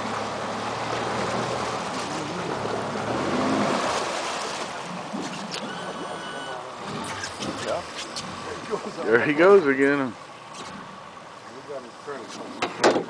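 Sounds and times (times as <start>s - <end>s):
outboard motor idling: 0.0s - 13.0s
water splashing against boat: 0.0s - 13.0s.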